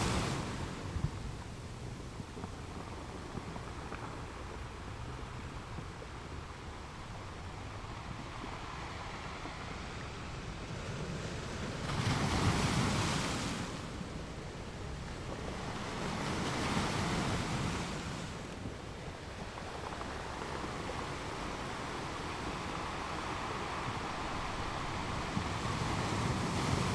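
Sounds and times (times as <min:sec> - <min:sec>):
ocean waves on shore: 0:00.0 - 0:01.6, 0:06.3 - 0:26.9.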